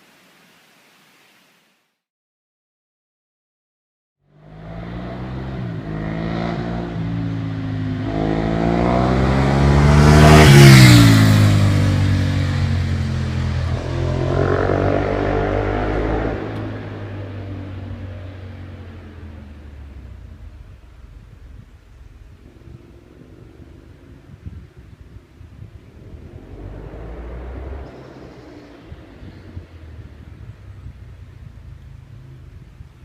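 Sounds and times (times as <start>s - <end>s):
motorcycle accelerating past: 4.3s - 33.0s.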